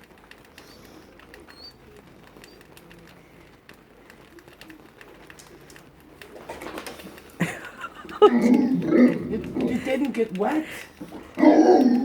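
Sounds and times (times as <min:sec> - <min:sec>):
rain dripping: 0:00.0 - 0:12.0.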